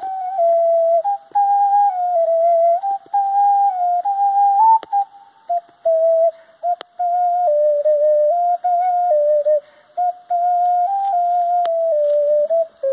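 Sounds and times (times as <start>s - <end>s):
ocarina melody: 0.0s - 12.9s.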